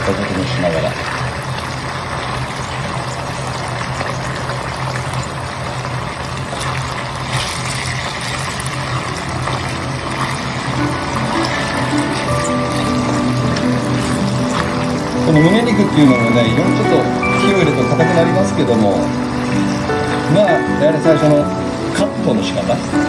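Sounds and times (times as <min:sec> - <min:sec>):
oil bubbling and sizzling in a pot: 0:00.0 - 0:23.0.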